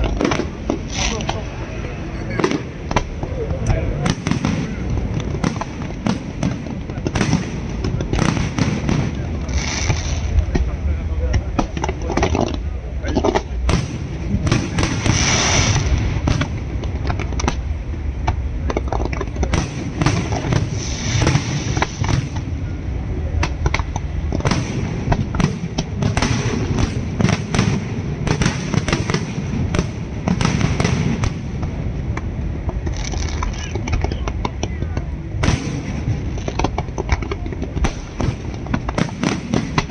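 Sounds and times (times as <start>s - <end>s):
fireworks cracks and bangs: 0.0s - 39.9s
low rumble: 0.0s - 39.9s.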